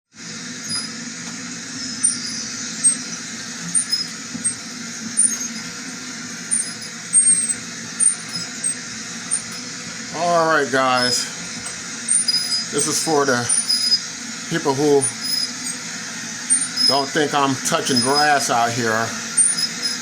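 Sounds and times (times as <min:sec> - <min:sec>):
treadmill humming: 0:00.1 - 0:20.0.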